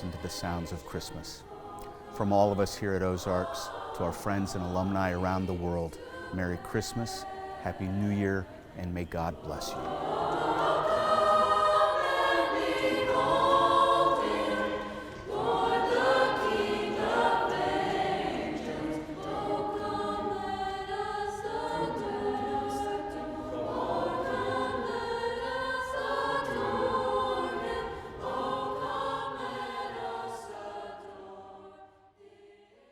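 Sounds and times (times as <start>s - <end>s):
choir singing a hymn: 0.0s - 32.9s.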